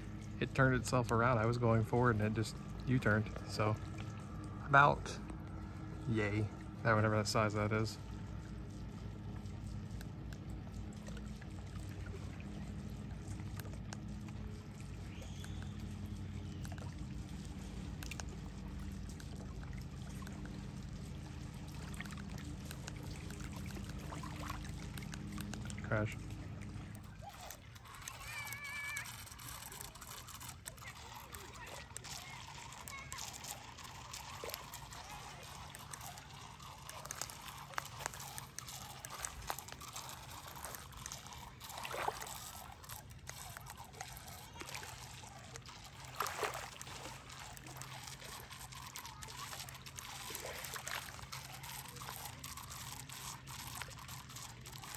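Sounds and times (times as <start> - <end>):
lake water lapping: 0.0 - 54.9
low background hum: 0.0 - 54.9
small splashy ticks: 0.0 - 54.9.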